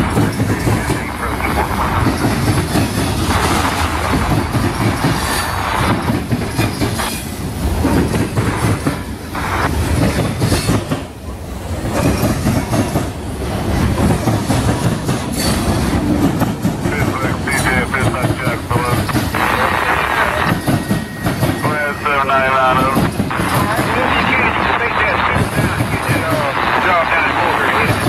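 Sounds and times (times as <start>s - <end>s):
heavy train rumble: 0.0s - 28.0s
train wheels clattering over crossing: 0.0s - 28.0s.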